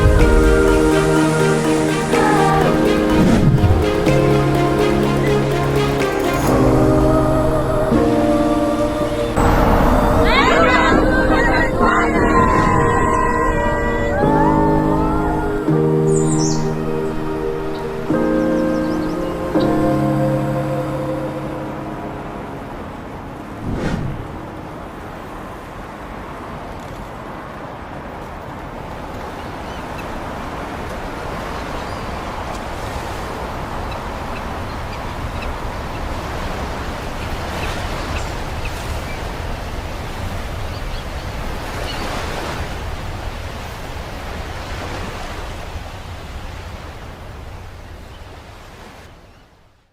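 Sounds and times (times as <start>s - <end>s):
ocean waves breaking: 0.0s - 49.4s
wind: 0.0s - 49.9s.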